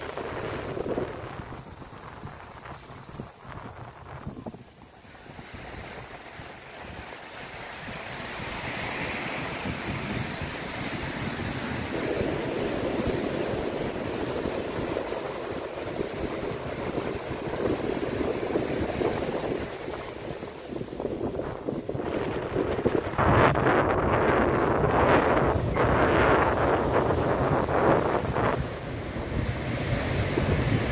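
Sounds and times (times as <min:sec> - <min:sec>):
surf washing onto shore: 0:00.0 - 0:30.9.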